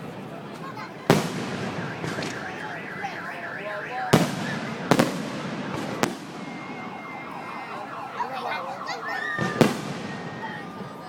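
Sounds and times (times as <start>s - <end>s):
steady background noise: 0.0s - 11.0s
fireworks bangs: 0.9s - 8.1s, 8.8s - 11.0s.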